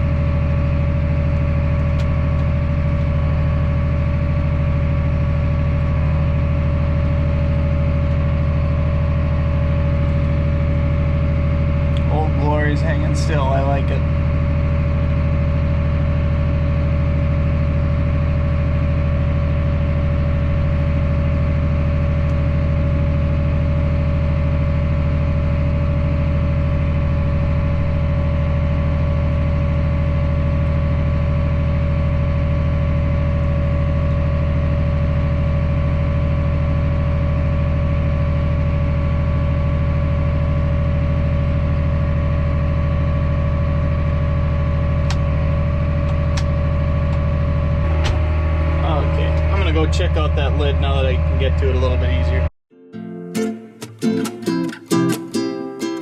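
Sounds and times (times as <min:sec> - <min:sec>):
engine humming with whine: 0:00.0 - 0:52.5.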